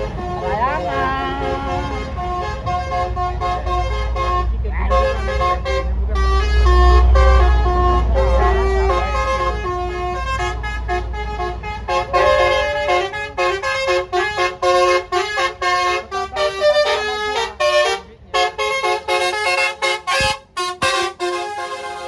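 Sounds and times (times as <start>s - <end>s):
low engine rumble: 0.0s - 22.0s
musical air horn: 0.0s - 22.0s.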